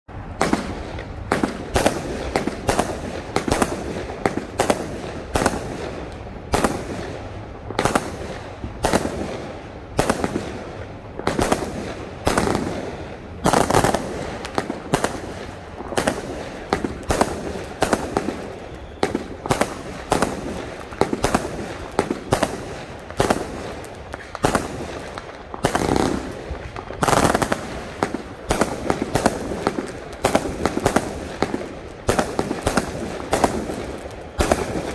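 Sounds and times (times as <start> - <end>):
firework bangs: 0.1 - 34.9.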